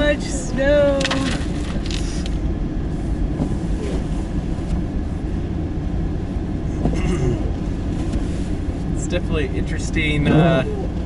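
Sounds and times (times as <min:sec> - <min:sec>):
truck cab rumble and rattle: 0:00.0 - 0:11.0.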